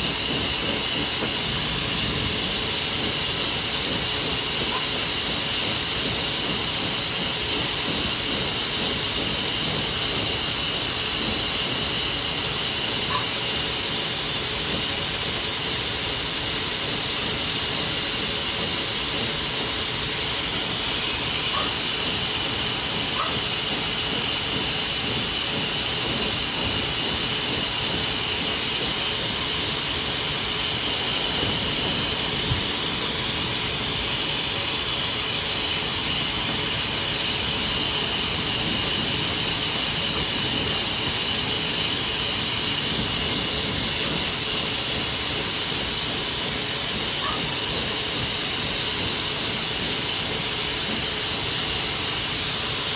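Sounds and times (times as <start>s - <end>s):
hair dryer blowing: 0.0s - 52.9s.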